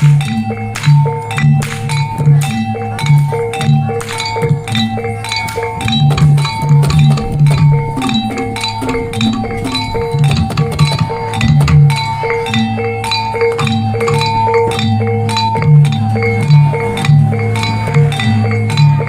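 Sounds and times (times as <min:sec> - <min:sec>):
drum strikes: 0:00.0 - 0:19.0
pitched struck percussion notes: 0:00.0 - 0:19.0.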